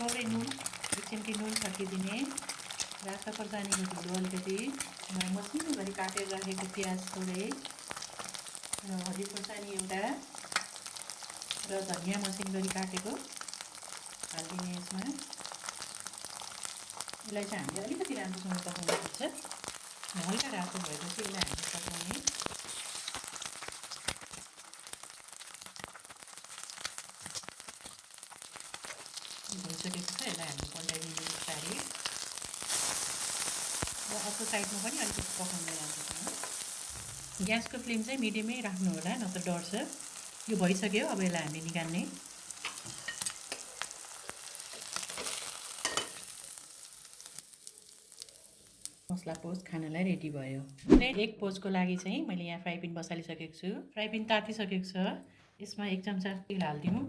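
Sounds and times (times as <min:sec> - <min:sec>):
egg sizzling in frying pan: 0:00.0 - 0:50.6.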